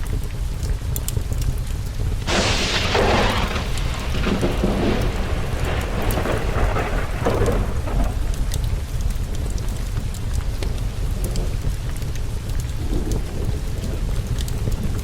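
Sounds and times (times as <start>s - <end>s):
fireplace crackles: 0.0s - 15.0s
steady rain: 0.0s - 15.0s
thunderclap rolling: 2.0s - 15.0s.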